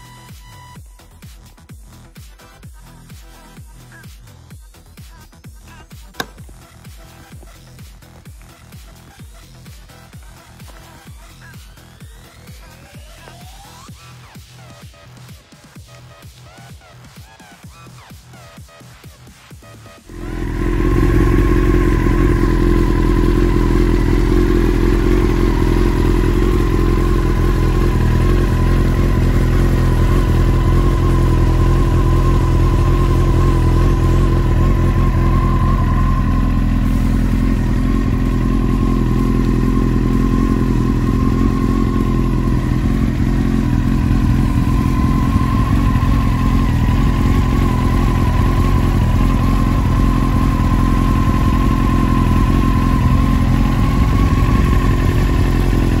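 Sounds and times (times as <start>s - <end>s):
motorcycle engine idling: 4.7s - 13.8s, 19.6s - 56.0s.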